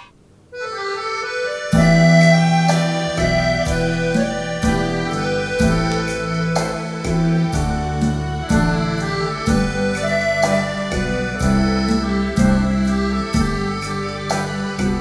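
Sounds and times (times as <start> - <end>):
instrumental music over loudspeakers: 0.6 - 15.0
stepping bass line: 1.7 - 15.0.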